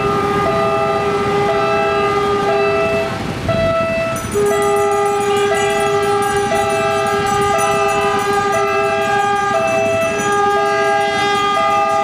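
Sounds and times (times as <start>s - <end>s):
level crossing warning tones: 0.0s - 12.0s.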